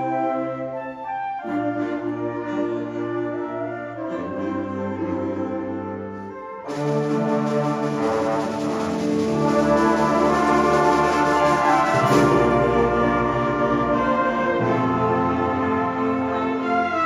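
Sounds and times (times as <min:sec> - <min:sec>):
orchestra playing held chords: 0:01.5 - 0:17.0.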